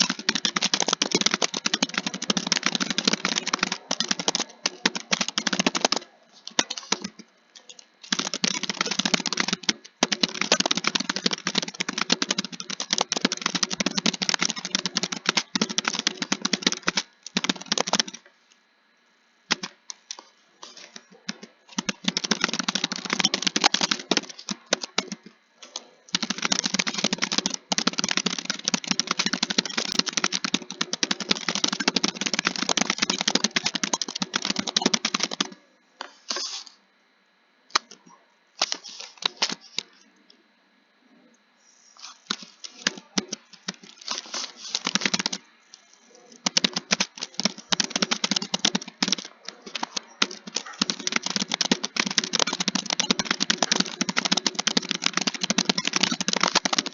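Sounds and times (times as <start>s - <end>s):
fast keyboard typing: 0.0s - 18.3s, 19.5s - 35.7s, 42.2s - 56.9s.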